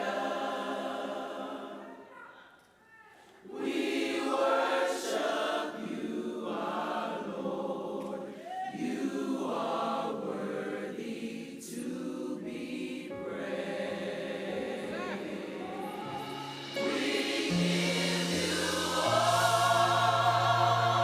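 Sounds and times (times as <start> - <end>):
church choir singing: 0.0 - 2.1, 3.4 - 21.0.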